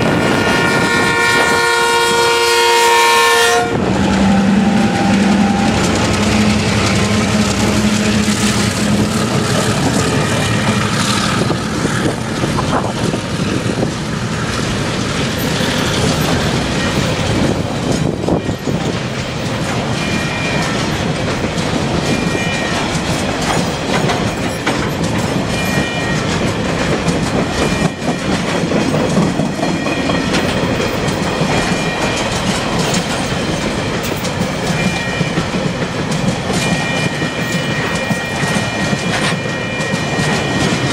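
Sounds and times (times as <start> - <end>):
diesel locomotive engine: 0.0 - 40.9
train wheels clickety-clack: 0.0 - 40.9.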